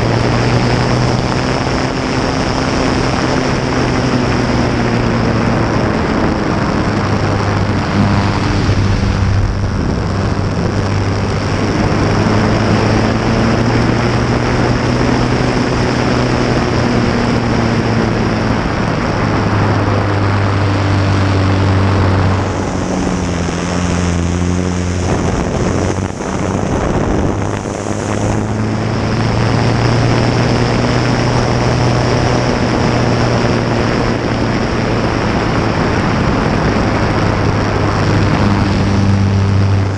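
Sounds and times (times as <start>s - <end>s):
light aircraft engine and propeller: 0.0s - 39.9s
rushing airflow: 0.0s - 39.9s.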